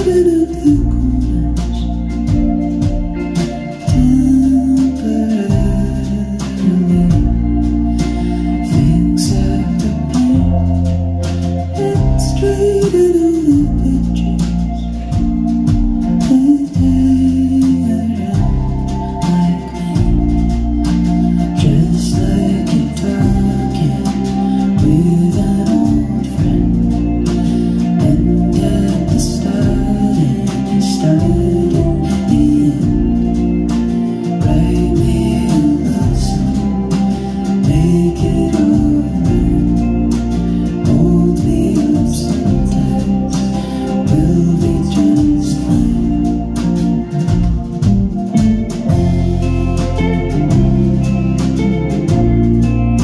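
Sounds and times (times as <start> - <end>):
woman singing lead vocal: 0.0 - 47.6
live rock band playing: 0.0 - 53.0.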